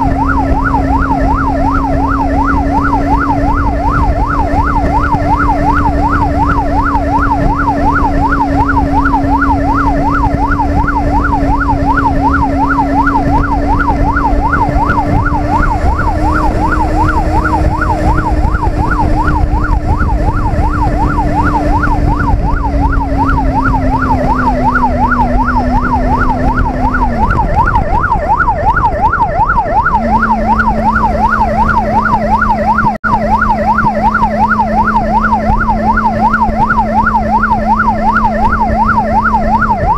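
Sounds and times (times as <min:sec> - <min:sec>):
motorcycle engine hum: 0:00.0 - 0:39.9
police siren yelping: 0:00.0 - 0:39.9
wind rush: 0:00.0 - 0:39.9.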